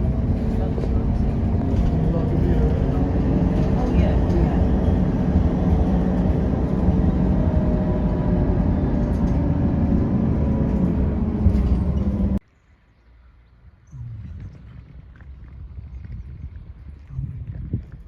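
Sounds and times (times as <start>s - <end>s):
quiet low rumble: 0.0s - 18.0s
vehicle engine and road noise: 0.0s - 18.0s.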